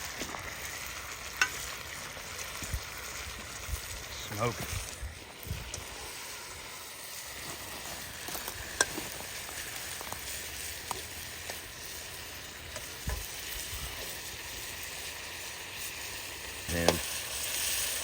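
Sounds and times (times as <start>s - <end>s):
chicken sizzling in a wok: 0.0s - 18.0s
sharp frying pops: 0.0s - 18.0s.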